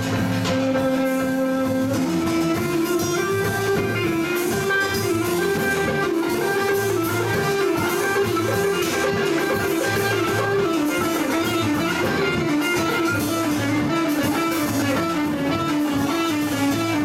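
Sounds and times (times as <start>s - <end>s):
belly-dance band music: 0.0s - 17.0s.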